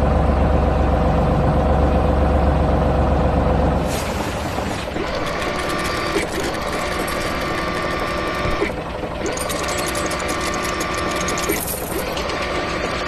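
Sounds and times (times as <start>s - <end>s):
machinery rattling with whine: 0.0s - 13.0s.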